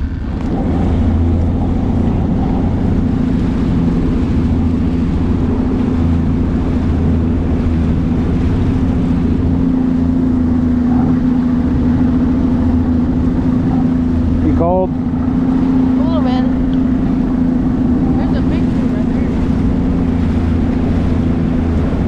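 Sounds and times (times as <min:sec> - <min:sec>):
outboard motor running: 0:00.0 - 0:22.0
wind and water rushing: 0:00.0 - 0:22.0.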